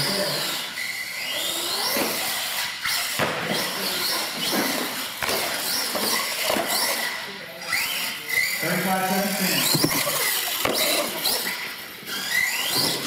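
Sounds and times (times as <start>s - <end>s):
toy truck motor whining: 0.0s - 13.0s.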